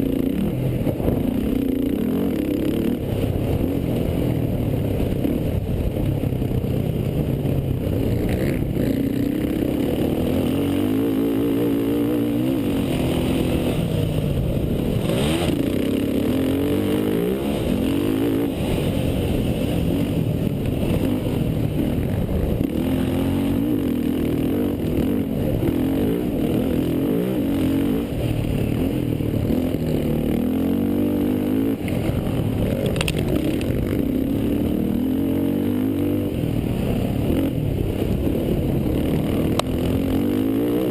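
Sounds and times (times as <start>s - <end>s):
quad engines revving: 7.8s - 40.9s.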